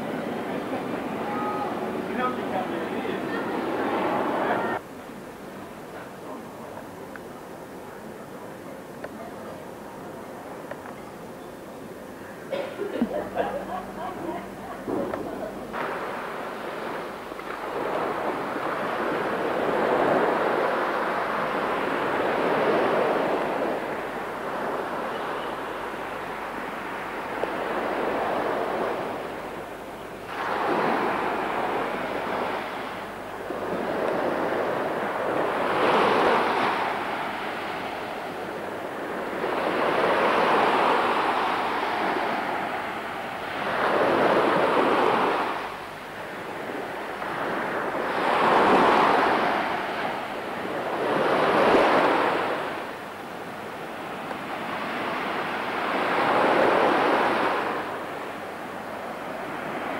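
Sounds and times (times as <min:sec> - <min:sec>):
waves washing onto beach: 0:00.0 - 0:59.9.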